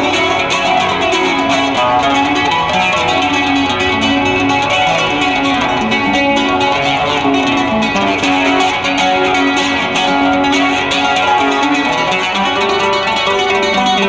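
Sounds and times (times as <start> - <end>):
flamenco guitar playing: 0.0 - 14.0.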